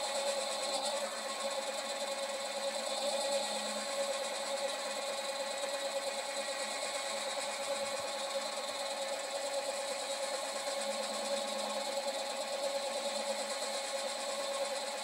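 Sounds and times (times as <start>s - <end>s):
lathe motor whining: 0.0s - 15.0s.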